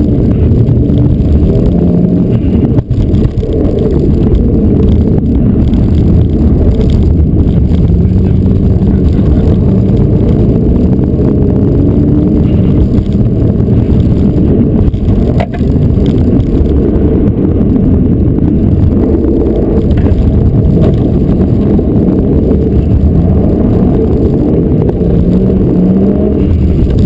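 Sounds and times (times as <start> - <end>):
car engine running hard: 0.0 - 27.0.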